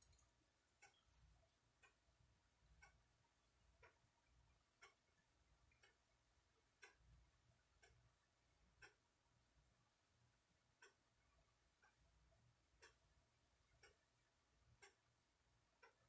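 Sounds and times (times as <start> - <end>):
clock ticking: 0.0 - 16.0.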